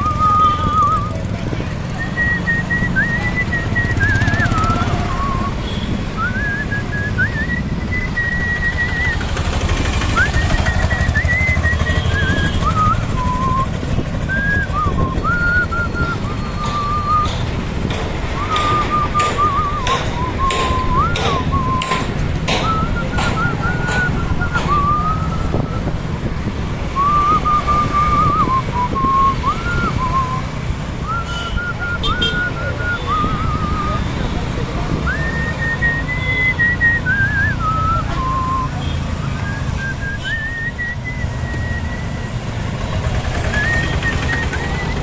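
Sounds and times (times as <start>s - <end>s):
person whistling a tune: 0.0s - 9.4s, 10.1s - 17.5s, 18.3s - 26.1s, 26.9s - 42.6s, 43.3s - 45.0s
wind and road noise: 0.0s - 45.0s.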